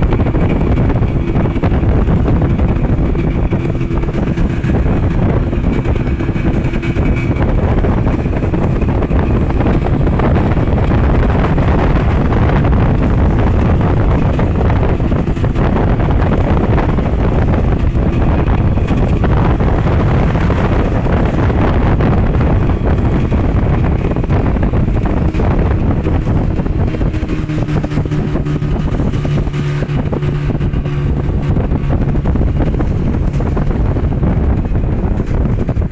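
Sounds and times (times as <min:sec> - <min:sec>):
engine running loudly: 0:00.0 - 0:35.9
steady low hum: 0:00.0 - 0:35.9
wind buffeting microphone: 0:00.0 - 0:35.9.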